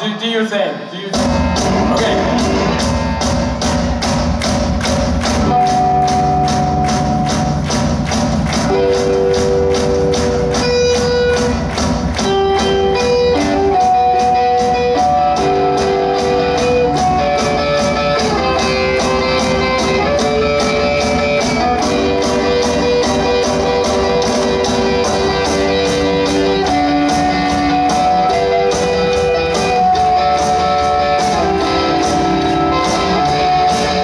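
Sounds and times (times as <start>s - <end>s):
electric guitars playing: 0.9s - 34.0s
quick drum beat: 1.2s - 34.0s.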